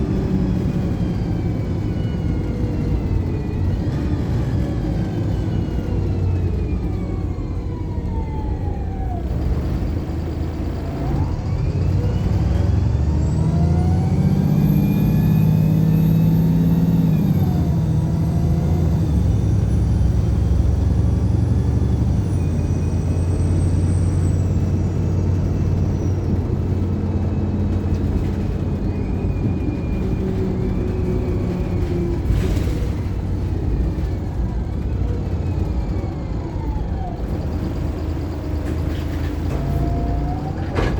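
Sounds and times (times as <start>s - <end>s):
bus engine and gearbox whine: 0.0s - 40.9s.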